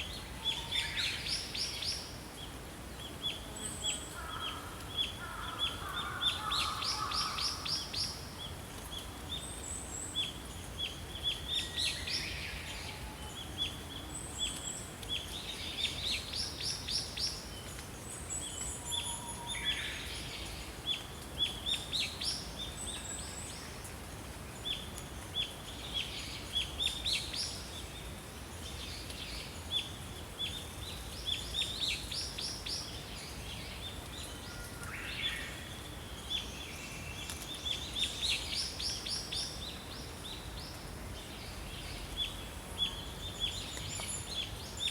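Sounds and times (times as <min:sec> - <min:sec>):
steady background hiss: 0:00.0 - 0:44.9.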